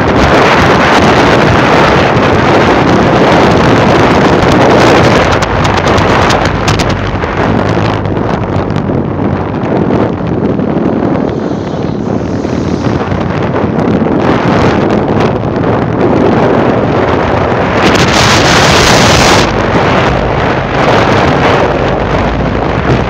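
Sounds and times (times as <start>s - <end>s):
vehicle rumble: 0.0s - 23.0s
wind buffeting microphone: 0.0s - 23.0s.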